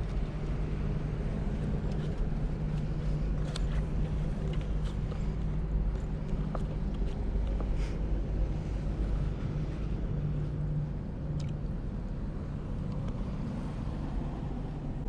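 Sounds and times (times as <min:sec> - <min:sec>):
low mechanical drone: 0:00.0 - 0:15.0
low rumble: 0:00.0 - 0:15.0.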